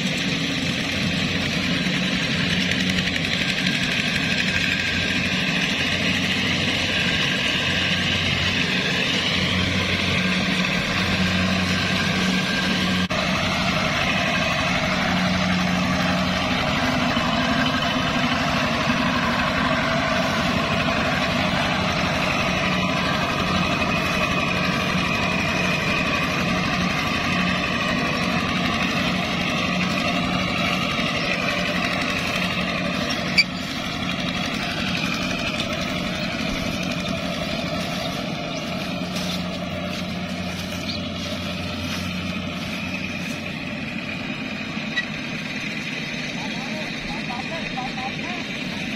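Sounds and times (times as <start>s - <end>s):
combine harvester diesel engine: 0.0s - 48.9s
walking tractor engine: 0.0s - 48.9s.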